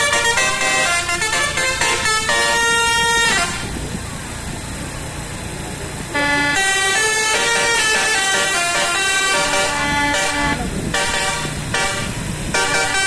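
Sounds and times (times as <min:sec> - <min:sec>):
multi-tone bus air horn melody: 0:00.0 - 0:03.8, 0:06.1 - 0:13.0
engine and road rumble: 0:00.0 - 0:13.0.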